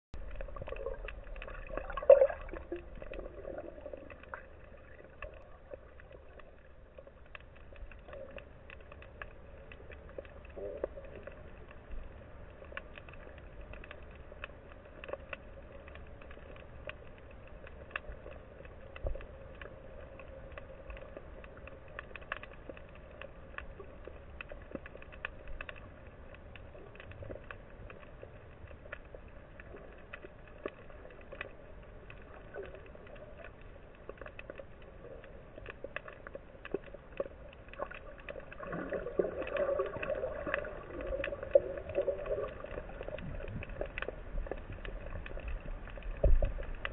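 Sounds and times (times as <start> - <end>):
faint underwater clicks: 0.2 - 46.9
muffled underwater hum: 0.2 - 46.9.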